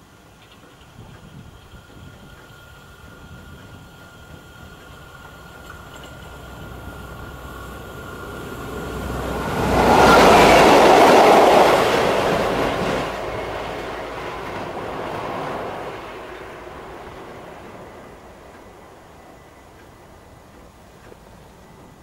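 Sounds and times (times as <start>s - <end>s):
locomotive engine noise: 0.0s - 22.0s
train wheels on rail: 0.0s - 22.0s.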